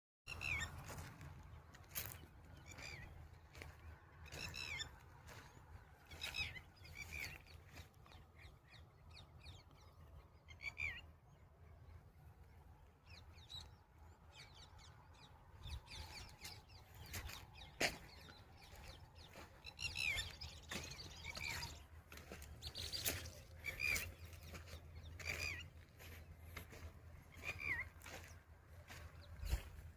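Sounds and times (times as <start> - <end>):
small birds chirping: 0.3 - 11.1, 11.7 - 29.9.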